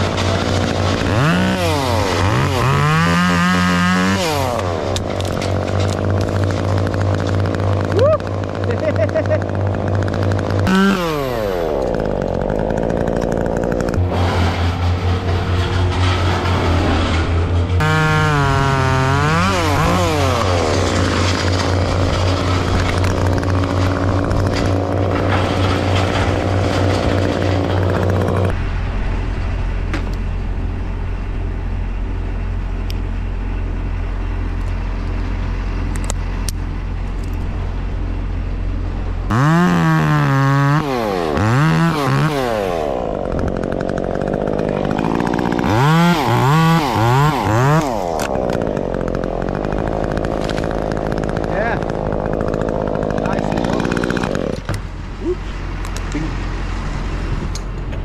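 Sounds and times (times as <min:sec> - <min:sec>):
chainsaw idling and revving: 0:00.0 - 0:28.6, 0:39.0 - 0:57.7.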